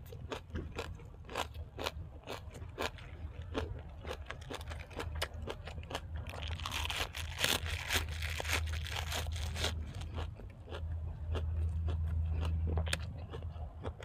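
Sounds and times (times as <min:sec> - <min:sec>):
chewing crunchy food: 0:00.0 - 0:14.0
steady low hum: 0:00.0 - 0:14.0.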